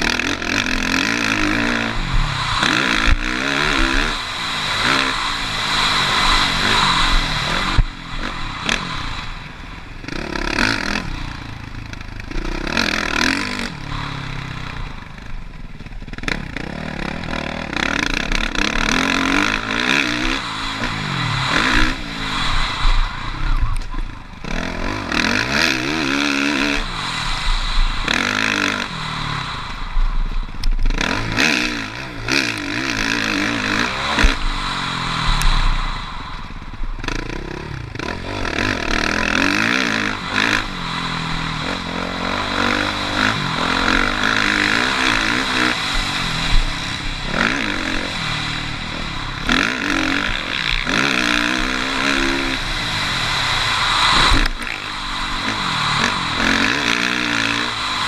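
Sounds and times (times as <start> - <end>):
clatter: 0.0 - 58.0
motocross bike engine revving: 0.0 - 58.0.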